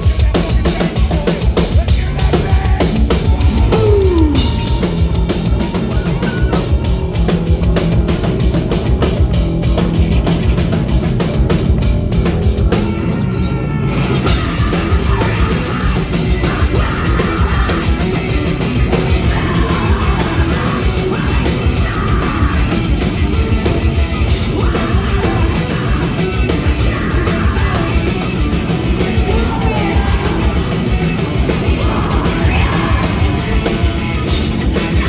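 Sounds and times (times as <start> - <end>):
fast dense drumming: 0.0 - 13.1, 14.3 - 35.0
yelled vocals: 0.0 - 13.2, 13.8 - 35.0
rock guitars: 0.0 - 35.0.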